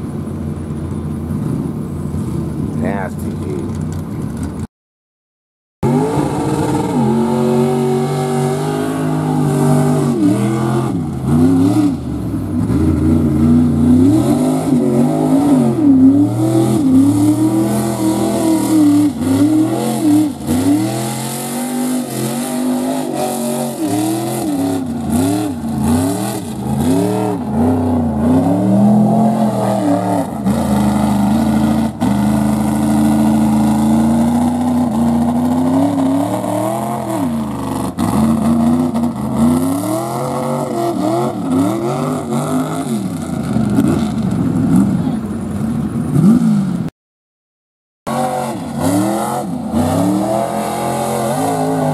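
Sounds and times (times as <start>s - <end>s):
engine revving hard: 5.8s - 12.0s, 12.6s - 45.2s, 48.1s - 51.9s.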